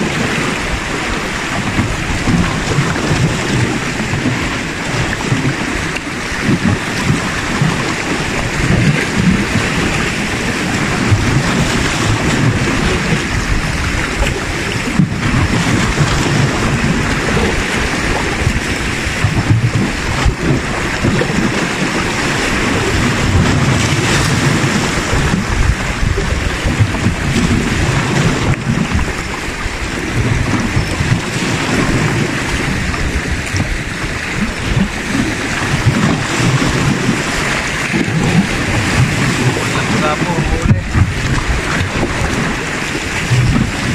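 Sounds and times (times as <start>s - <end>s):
sea waves washing against rocks: 0.0s - 43.9s
wind rumble on microphone: 0.0s - 43.9s.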